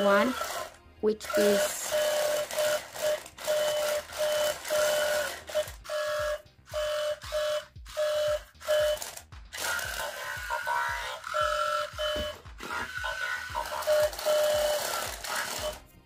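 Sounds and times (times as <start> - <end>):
toy robot beeping: 0.0 - 15.8.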